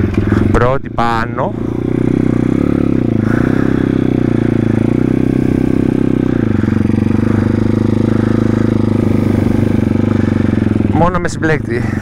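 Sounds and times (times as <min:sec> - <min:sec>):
motorbike engine running at low revs: 0:00.0 - 0:12.0.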